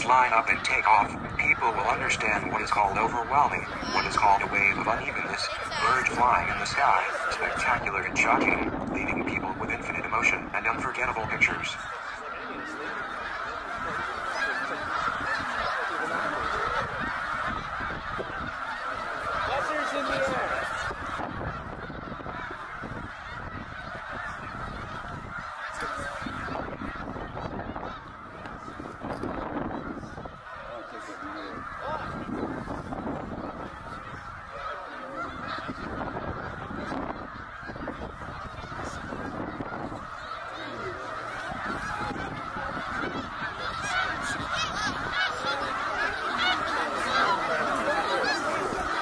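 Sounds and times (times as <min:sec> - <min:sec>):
flock of geese honking: 0:00.0 - 0:49.0.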